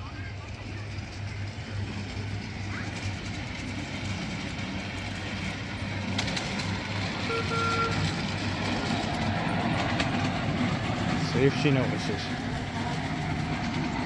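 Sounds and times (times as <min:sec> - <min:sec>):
miniature locomotive humming: 0:00.0 - 0:14.0.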